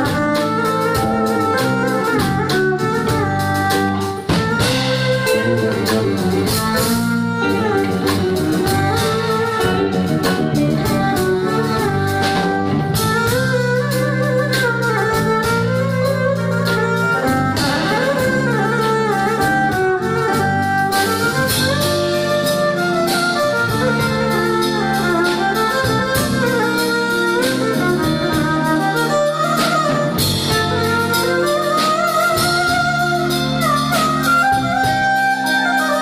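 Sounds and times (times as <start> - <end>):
drum and cymbal strokes: 0.0 - 36.0
electric keyboard chords: 0.0 - 36.0
violin melody with sliding notes: 0.0 - 36.0.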